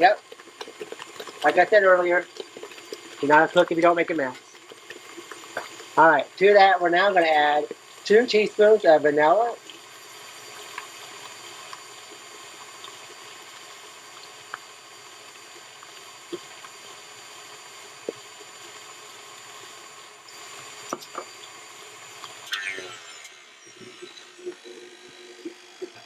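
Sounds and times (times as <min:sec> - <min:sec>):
electric stand mixer whining: 0:00.0 - 0:26.0.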